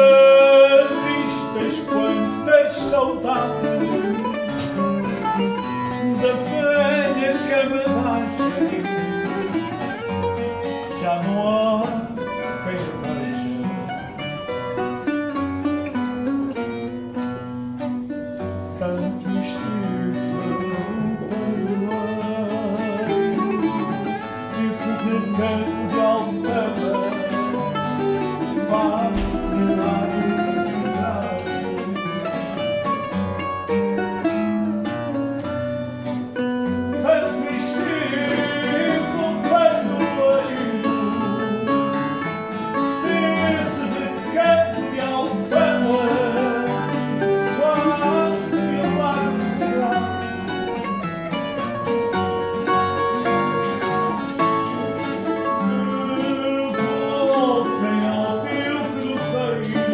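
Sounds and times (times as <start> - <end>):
man singing with vibrato: 0.0 - 16.1, 18.4 - 59.9
plucked guitar: 0.0 - 59.9.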